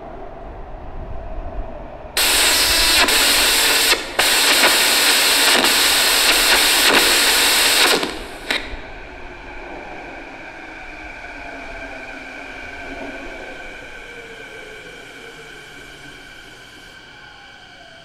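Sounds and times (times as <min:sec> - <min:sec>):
steady multi-tone whine: 0:01.8 - 0:18.0
train rushing hiss: 0:02.2 - 0:18.0.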